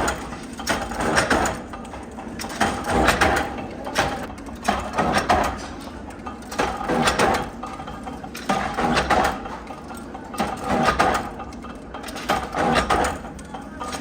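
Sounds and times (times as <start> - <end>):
metallic clatter of machinery: 0.0 - 14.0
steady machine hum: 0.0 - 14.0.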